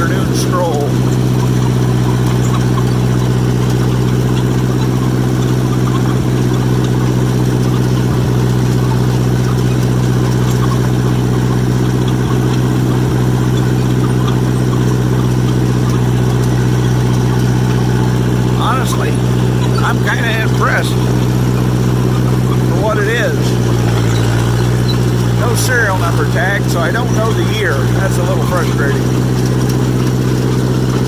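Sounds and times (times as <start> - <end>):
crawler engine running steadily: 0.0 - 31.0.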